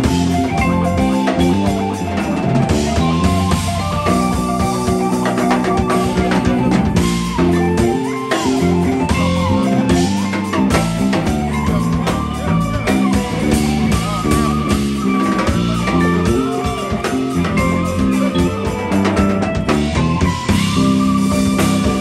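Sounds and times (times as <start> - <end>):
drum kit with cymbals: 0.0 - 22.0
electric bass: 0.0 - 22.0
electric guitar: 0.0 - 22.0
keyboard: 0.0 - 22.0.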